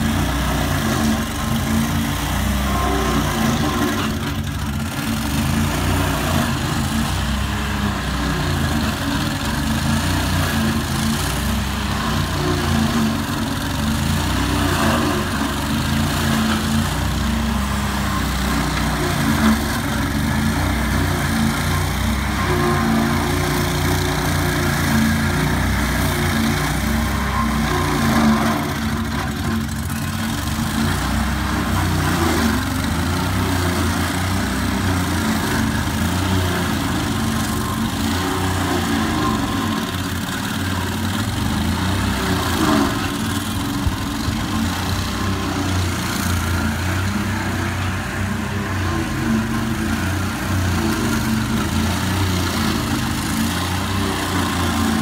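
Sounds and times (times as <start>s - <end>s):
small petrol engine running: 0.0s - 55.0s.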